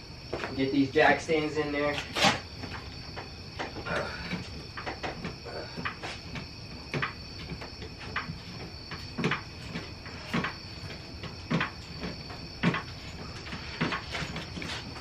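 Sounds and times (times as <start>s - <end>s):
floor jack clicking: 1.9s - 15.0s.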